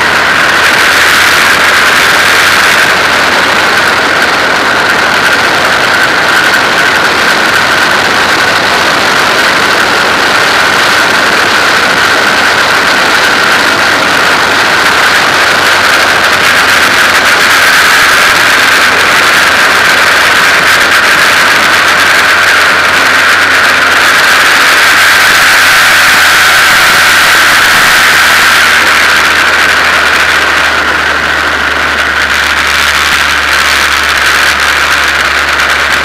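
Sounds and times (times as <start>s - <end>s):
race car engine running: 0.0s - 36.0s.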